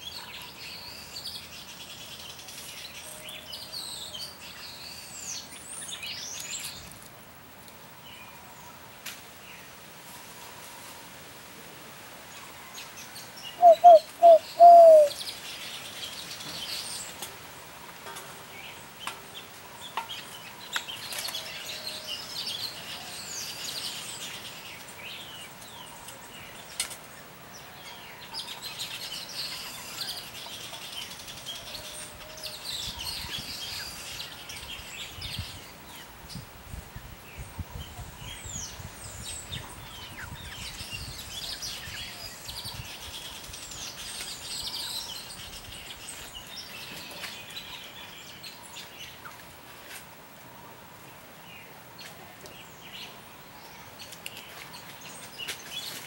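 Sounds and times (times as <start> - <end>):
songbirds chirping and chattering: 0.0 - 56.0.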